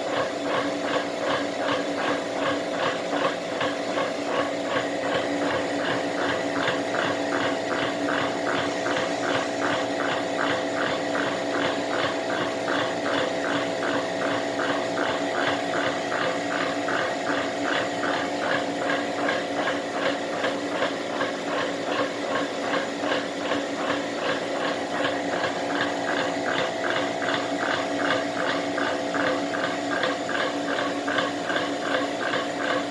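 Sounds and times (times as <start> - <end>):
rapid mechanical ticking: 0.0 - 32.9
steady hum: 0.0 - 32.9.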